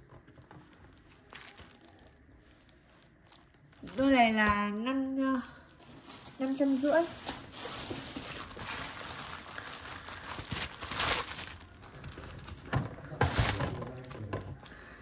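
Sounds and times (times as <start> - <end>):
paper rustling and crinkling: 0.0 - 4.7, 5.5 - 14.8.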